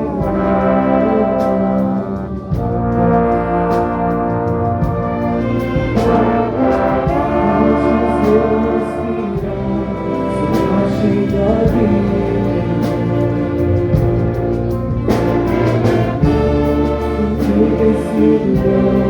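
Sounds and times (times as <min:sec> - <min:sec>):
brass orchestra playing a hymn: 0:00.0 - 0:19.0
voices singing along: 0:00.0 - 0:19.0.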